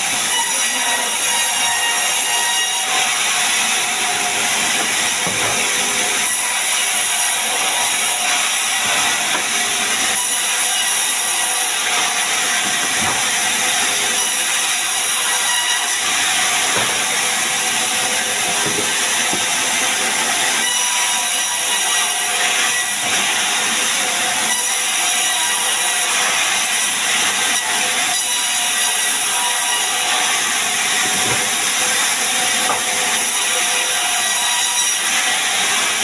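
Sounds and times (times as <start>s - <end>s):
band saw cutting wood: 0.0s - 36.0s.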